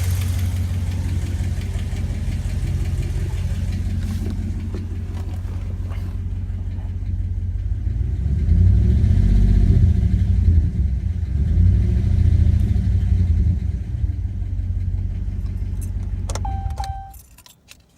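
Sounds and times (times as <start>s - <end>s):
pickup truck engine idling and revving: 0.0s - 17.2s.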